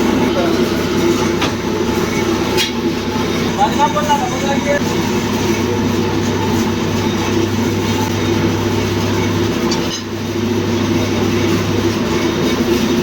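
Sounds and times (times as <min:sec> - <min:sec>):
machine running with low hum: 0:00.0 - 0:13.0.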